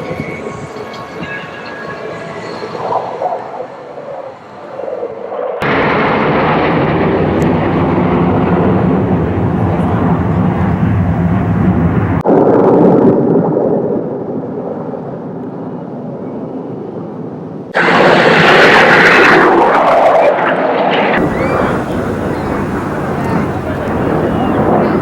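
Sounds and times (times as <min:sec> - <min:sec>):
military jet engine noise: 0:00.0 - 0:25.0.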